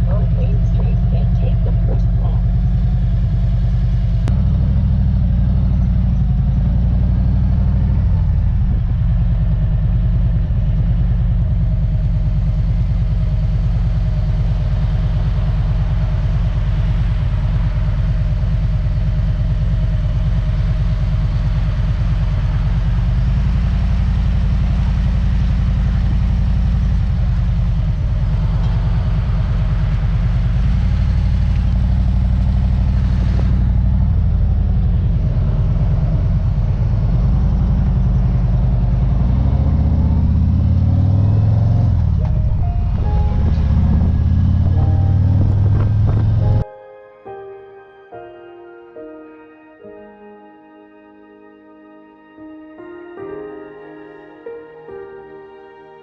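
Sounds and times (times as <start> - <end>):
vehicle engine droning: 0.0 - 46.8.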